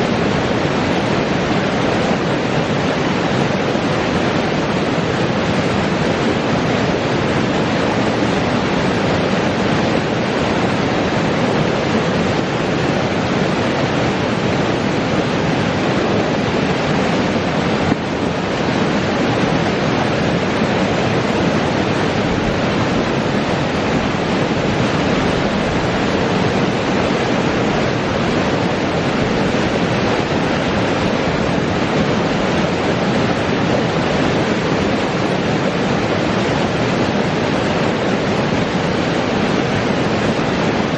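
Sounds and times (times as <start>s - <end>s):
creek water flowing: 0.0s - 40.9s.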